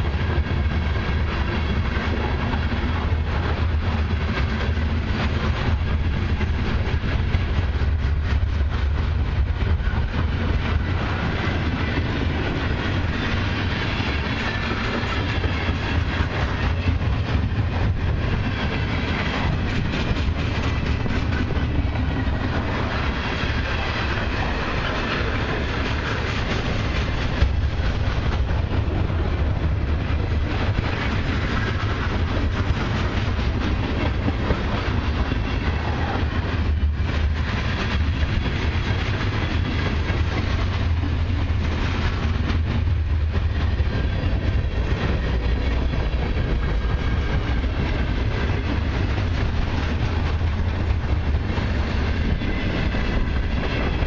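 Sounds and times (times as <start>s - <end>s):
train wheels rumbling on rails: 0.0s - 54.0s
wheels clacking over rail joints: 0.0s - 54.0s.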